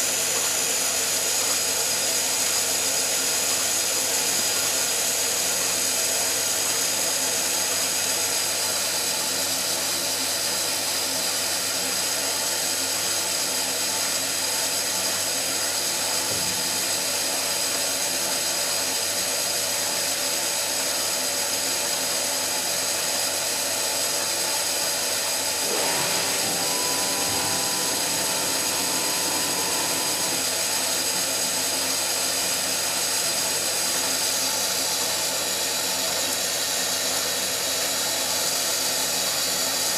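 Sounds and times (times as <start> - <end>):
washing machine motor whine: 0.0 - 37.9.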